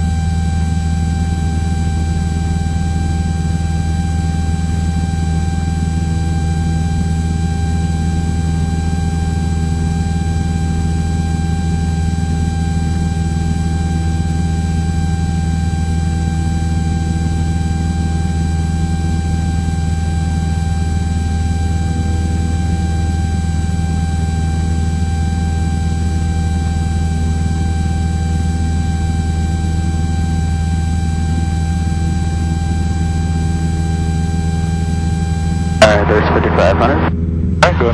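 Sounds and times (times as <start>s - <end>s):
propeller plane engine droning: 0.0s - 37.9s
steady high whine: 0.0s - 37.9s.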